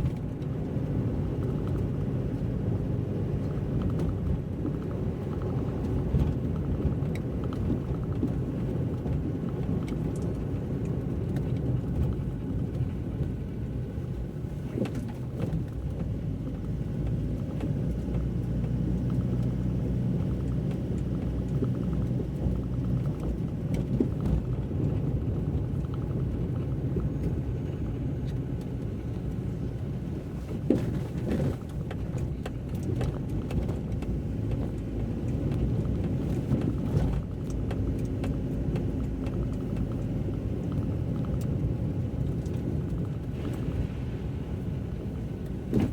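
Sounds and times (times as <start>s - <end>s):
car road and engine rumble: 0.0s - 45.9s.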